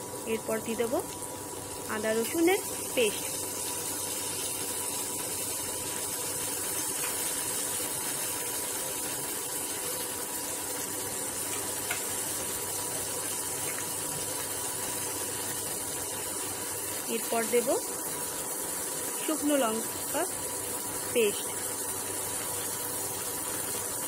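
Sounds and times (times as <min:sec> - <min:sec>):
induction cooktop hum: 0:00.0 - 0:24.0
masala sizzling in oil: 0:00.0 - 0:24.0.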